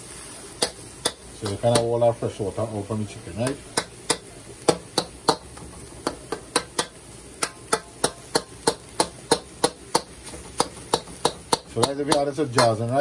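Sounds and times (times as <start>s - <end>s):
metal spatula clacking on wok: 0.6s - 2.0s, 3.4s - 12.9s.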